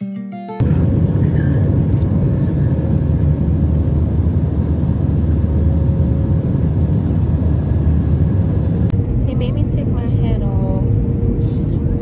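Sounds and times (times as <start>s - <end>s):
jet engines and rushing air: 0.6s - 12.0s.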